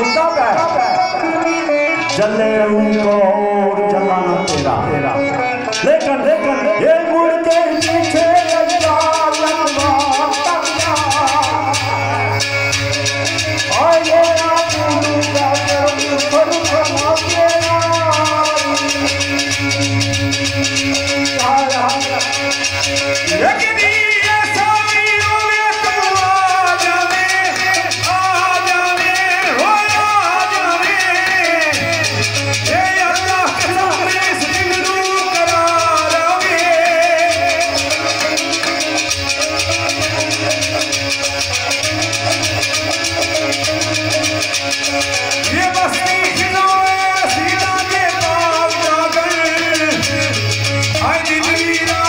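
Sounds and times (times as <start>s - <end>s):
man singing: 0.0s - 40.9s, 45.2s - 52.0s
rattling percussion beat: 0.0s - 52.0s
sitar melody: 0.0s - 52.0s.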